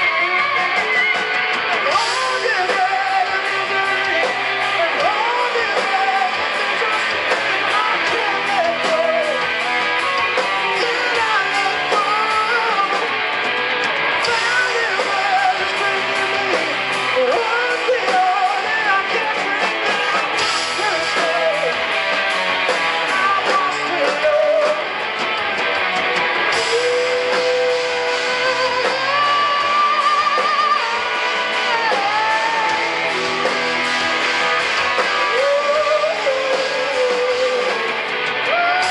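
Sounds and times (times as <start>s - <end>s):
distorted electric guitars: 0.0s - 38.9s
drums: 0.0s - 38.9s
wavering lead guitar melody: 0.0s - 38.9s.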